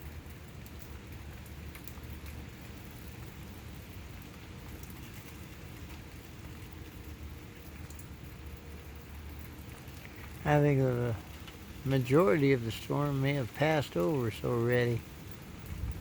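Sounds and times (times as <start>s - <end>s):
low steady rumble: 0.0s - 16.0s
steady rain falling: 0.0s - 16.0s.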